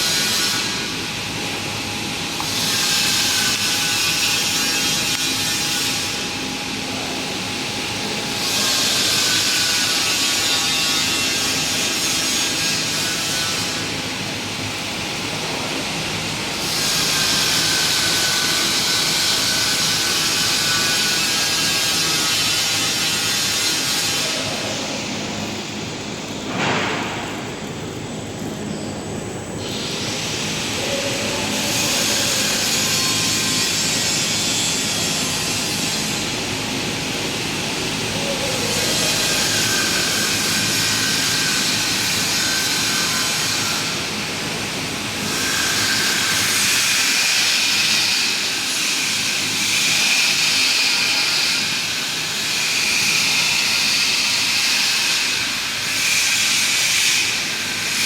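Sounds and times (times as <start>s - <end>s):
welding arc hissing: 0.0s - 58.0s.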